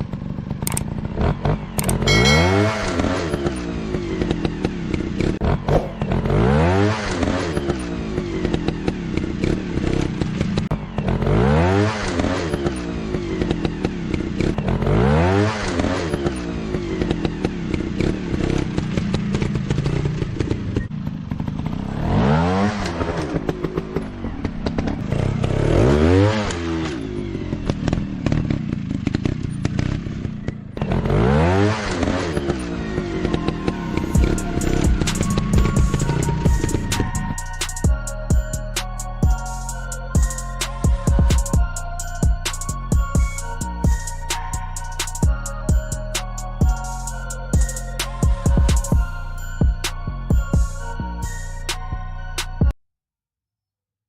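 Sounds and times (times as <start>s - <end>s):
motorcycle engines revving: 0.0s - 51.8s.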